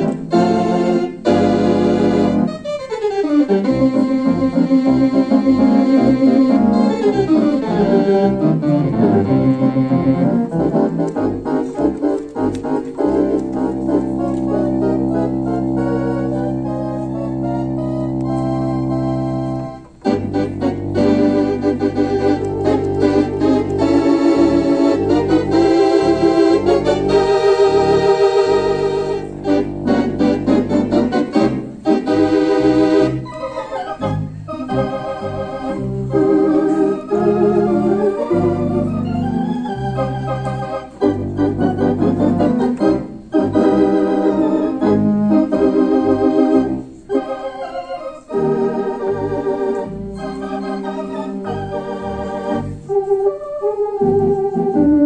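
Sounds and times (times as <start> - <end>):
theatre organ playing: 0.0 - 55.0.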